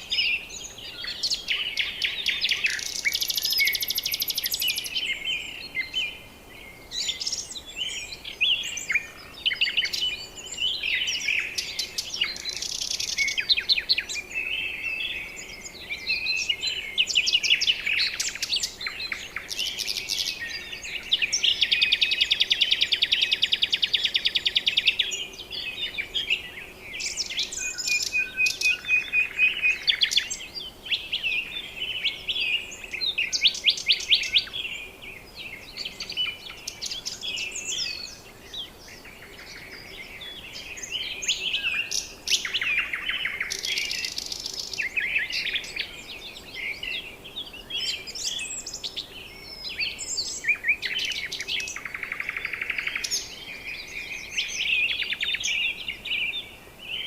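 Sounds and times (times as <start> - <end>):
birds chirping and whistling: 0.0 - 57.0.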